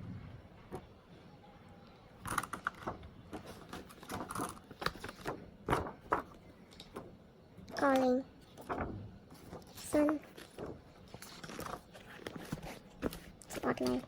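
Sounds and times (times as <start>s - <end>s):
packaging handling clicks and rustles: 2.2s - 14.0s.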